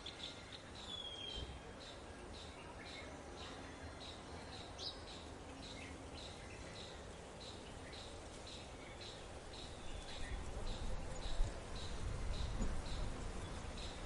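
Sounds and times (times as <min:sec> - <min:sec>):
faint outdoor ambient noise: 0:00.0 - 0:14.0.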